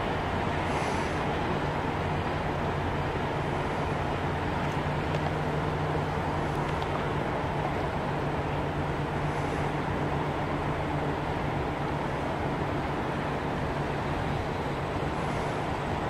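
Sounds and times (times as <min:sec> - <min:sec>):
outdoor rumble: 0:00.0 - 0:16.0
ship diesel engines droning: 0:00.0 - 0:16.0.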